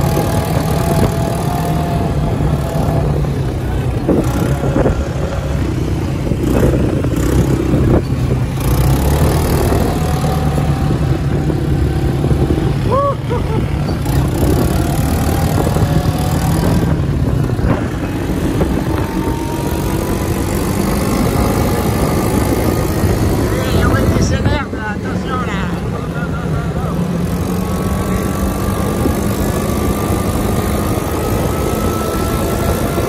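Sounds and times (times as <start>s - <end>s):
quad bike engines running: 0.0s - 33.0s.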